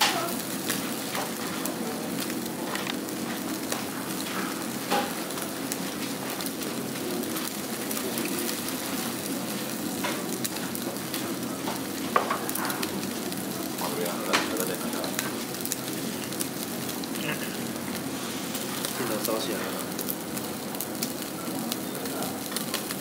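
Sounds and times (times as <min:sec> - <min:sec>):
crackles and pops: 0:00.0 - 0:23.0
meat sizzling on grill: 0:00.0 - 0:23.0.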